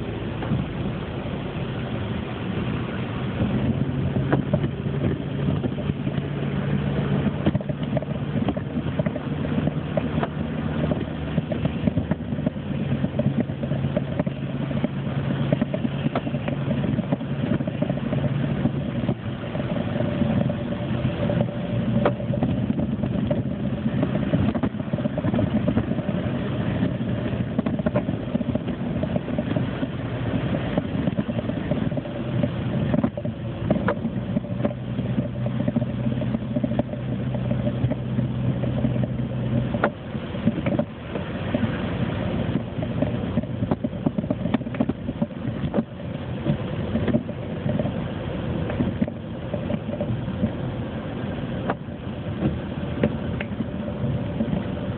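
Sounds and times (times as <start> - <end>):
car engine drone: 0.0 - 54.9
road noise: 0.0 - 54.9.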